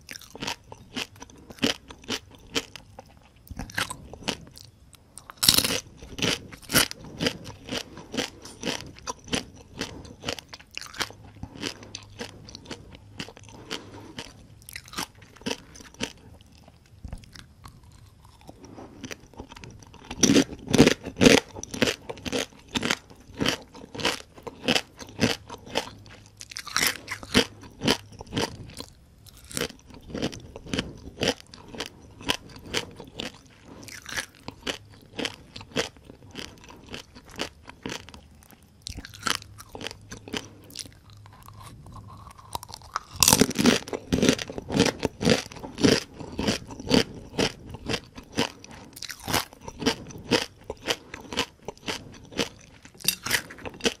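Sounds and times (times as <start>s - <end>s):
crunching fried crabs: 0.0s - 54.0s.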